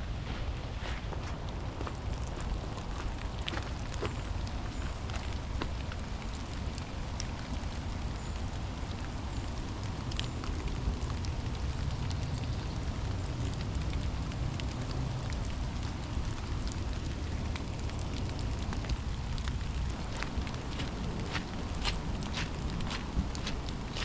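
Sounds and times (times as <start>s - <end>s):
steady rain falling: 0.0s - 24.0s
sharp drips: 1.8s - 24.0s.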